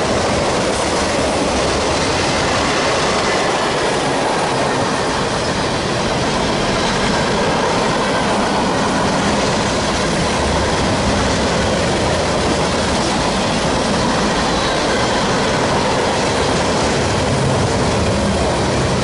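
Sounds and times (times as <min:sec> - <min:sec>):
clickety-clack over rail joints: 0:00.0 - 0:19.0
wheel-on-rail noise: 0:00.0 - 0:19.0.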